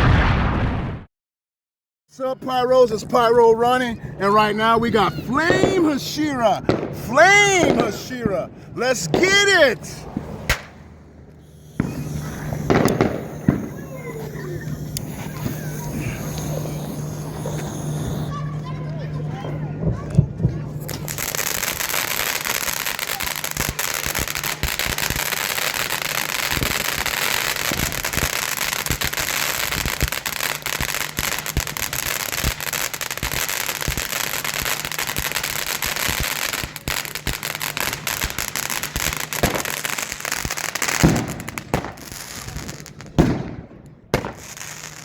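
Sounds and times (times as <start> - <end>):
firework fountain hissing and crackling: 2.2 - 45.0
firework bangs: 4.6 - 45.0.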